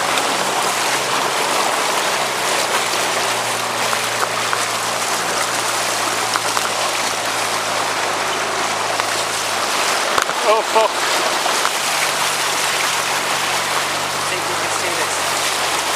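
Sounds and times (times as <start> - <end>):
floodwater rushing: 0.0 - 15.9.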